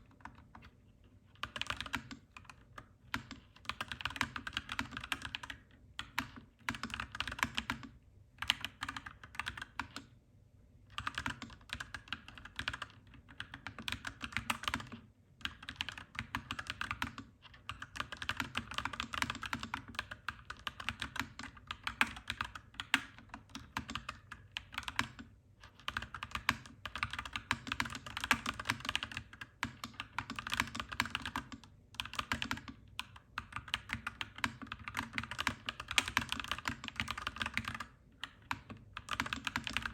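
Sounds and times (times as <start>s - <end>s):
mechanical keyboard typing: 1.3s - 10.1s, 10.9s - 39.9s.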